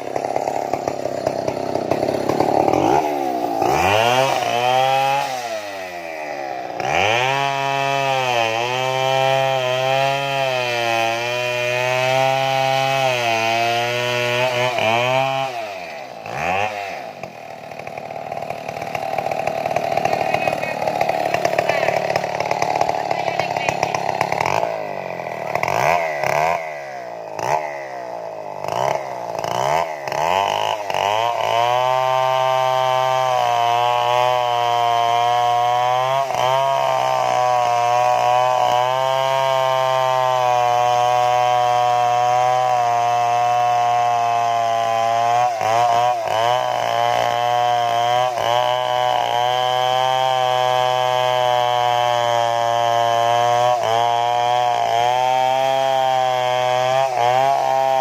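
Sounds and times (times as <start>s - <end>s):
chainsaw cutting tree trunk: 0.0s - 58.0s.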